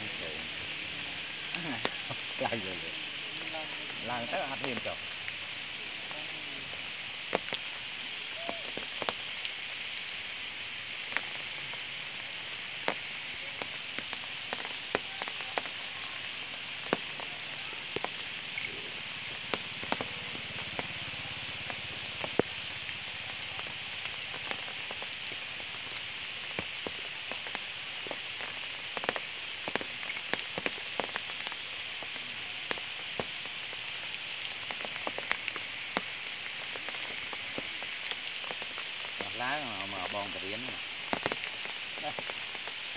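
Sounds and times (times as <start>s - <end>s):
rain hissing: 0.0s - 42.9s
raindrops tapping: 0.0s - 42.9s.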